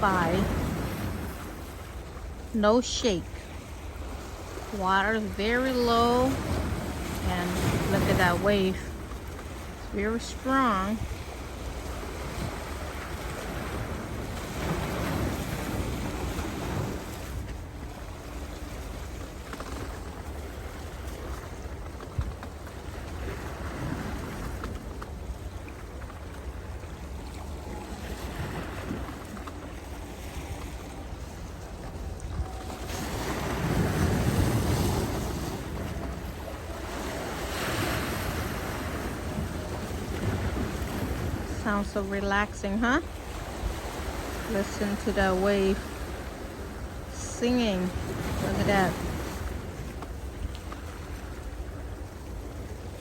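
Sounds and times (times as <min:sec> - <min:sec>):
choppy waves washing in: 0:00.0 - 0:53.0
wind rumbling on microphone: 0:00.0 - 0:53.0.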